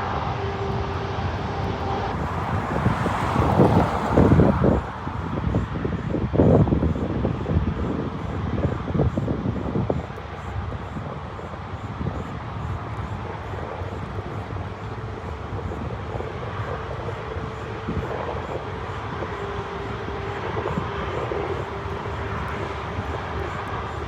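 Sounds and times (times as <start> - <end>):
jet engine whine: 0.0 - 24.0
jet engines roaring: 0.0 - 24.0.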